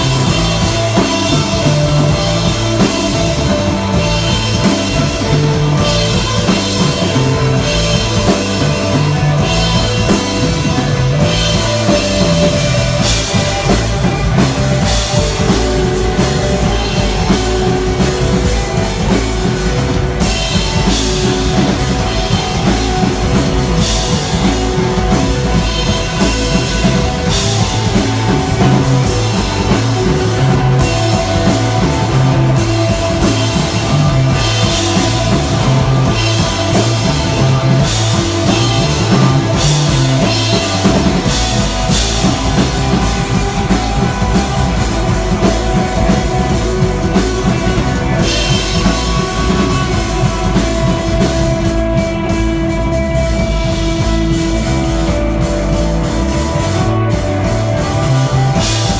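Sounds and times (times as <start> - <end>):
rock band playing live: 0.0 - 58.9.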